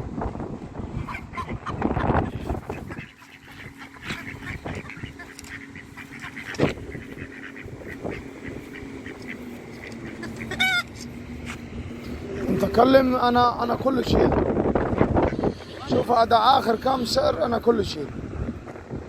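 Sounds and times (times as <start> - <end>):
geese honking: 0.8 - 18.1
ducks quacking: 0.8 - 18.2.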